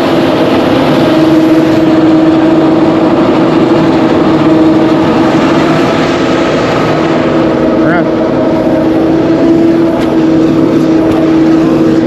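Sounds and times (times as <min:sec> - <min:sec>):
threshing machine engine humming: 0:00.0 - 0:12.0.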